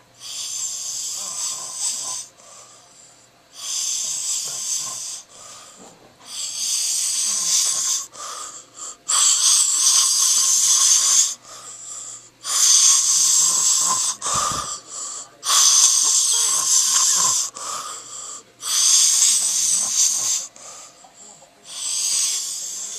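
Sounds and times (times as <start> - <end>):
man snoring: 0.0 - 21.1, 21.7 - 22.9.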